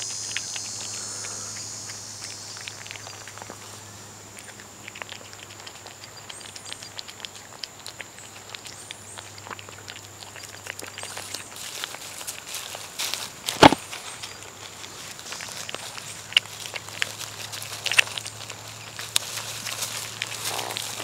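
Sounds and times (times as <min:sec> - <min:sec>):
cat chewing and licking: 0:00.0 - 0:21.0.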